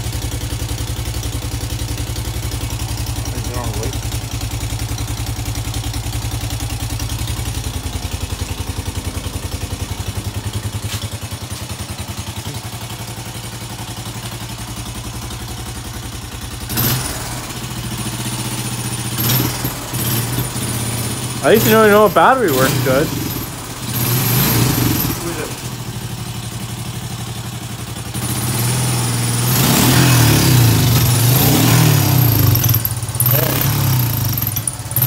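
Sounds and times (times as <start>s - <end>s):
atv engine idling: 0.0s - 35.0s
clatter: 0.0s - 35.0s.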